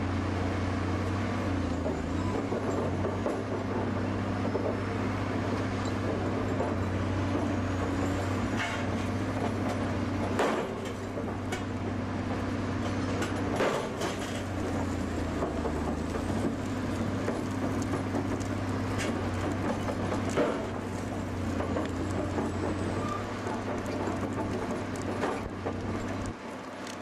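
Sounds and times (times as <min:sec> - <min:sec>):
heavy machinery engine hum: 0:00.0 - 0:27.0.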